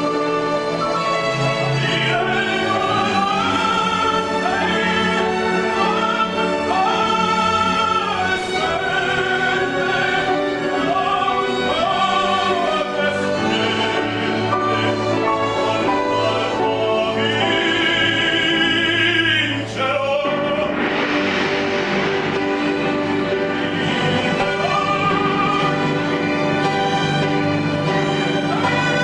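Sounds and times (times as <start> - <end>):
orchestral accompaniment: 0.0 - 29.0
operatic voice singing: 1.3 - 21.4, 23.5 - 27.0.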